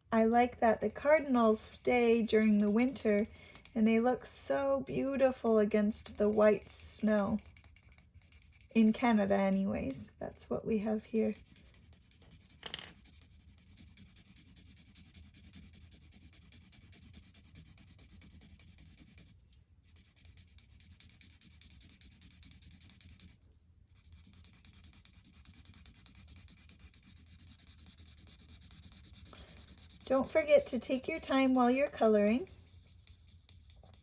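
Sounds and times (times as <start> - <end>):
pencil scratching on paper: 0.8 - 4.3, 4.9 - 9.8, 11.1 - 34.0.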